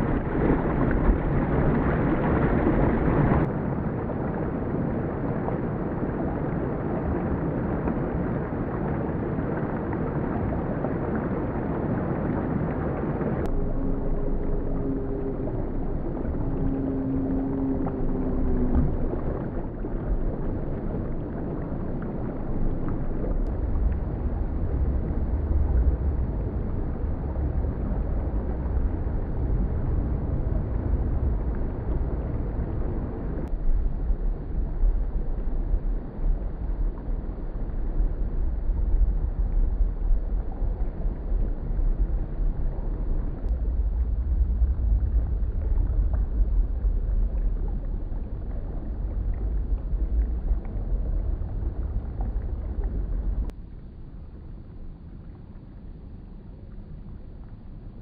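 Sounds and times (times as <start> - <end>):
slowed stream water wash: 0.0 - 58.0.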